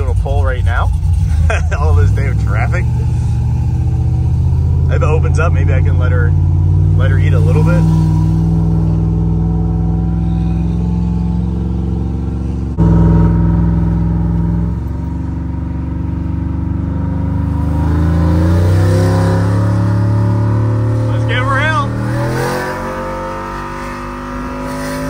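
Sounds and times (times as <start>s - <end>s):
truck engine accelerating: 0.0s - 25.0s.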